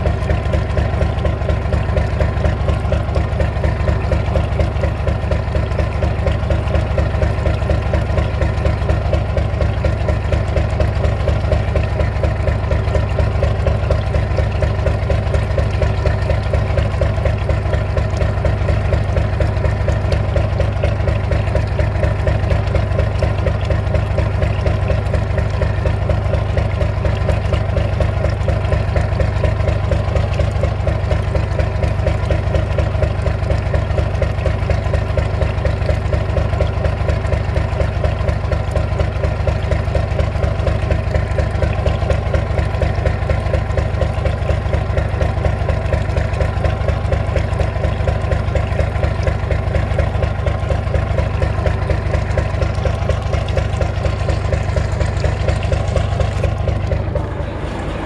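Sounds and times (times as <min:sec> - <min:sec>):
marine engine idling: 0:00.0 - 0:58.0
water splashing into sea: 0:00.0 - 0:58.0.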